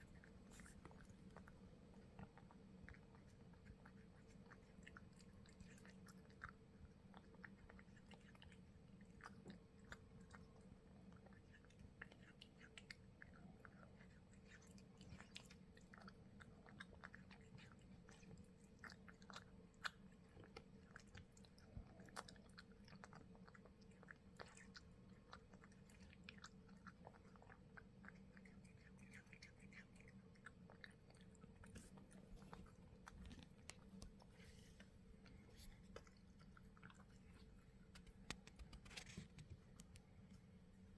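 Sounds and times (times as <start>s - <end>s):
cat chewing food: 0.0s - 40.9s.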